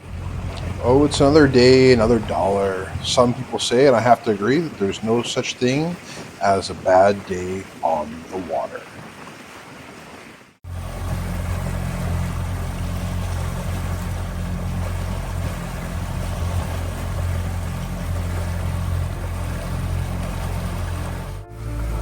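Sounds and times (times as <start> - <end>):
motorboat engine humming: 0.0 - 22.0
water rushing: 0.0 - 22.0
wind: 0.0 - 22.0.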